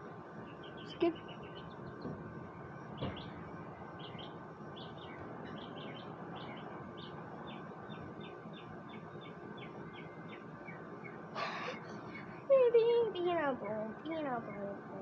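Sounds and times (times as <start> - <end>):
small bird chirping: 0.4 - 15.0.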